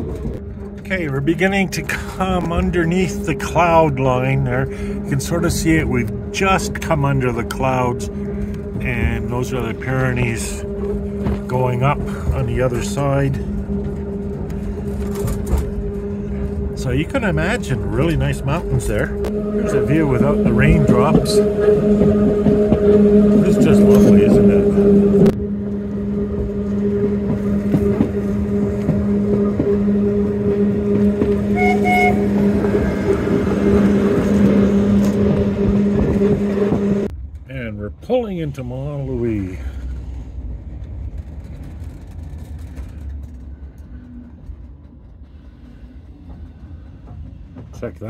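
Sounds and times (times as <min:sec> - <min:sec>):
train motor hum and rumble: 0:00.0 - 0:48.0.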